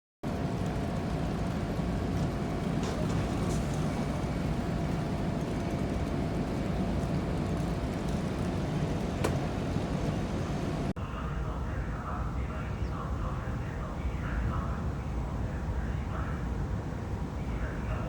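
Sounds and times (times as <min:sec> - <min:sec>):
engine rumbling: 0:00.2 - 0:18.0.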